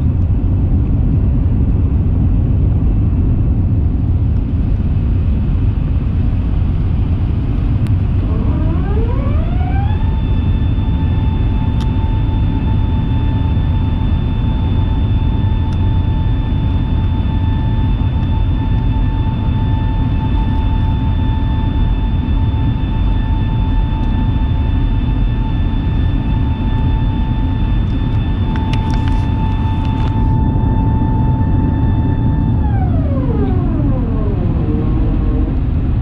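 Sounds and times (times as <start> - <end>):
jet engine whine rising: 0.0 - 36.0
jet engines rumbling: 0.0 - 36.0.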